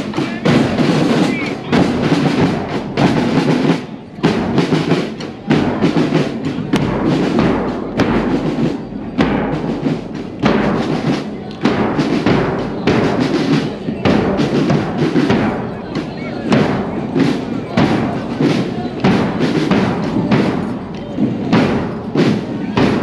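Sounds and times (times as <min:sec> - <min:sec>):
drums and bass drum: 0:00.0 - 0:23.0
marching band playing: 0:00.0 - 0:23.0.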